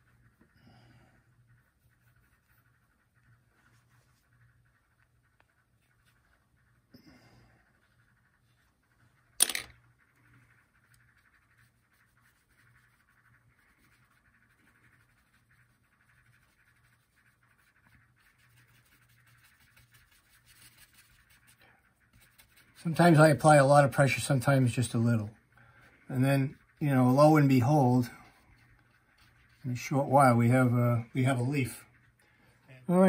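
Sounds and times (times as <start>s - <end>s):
low steady hum: 0.0s - 33.0s
paintbrush scratching on panel: 0.0s - 33.0s.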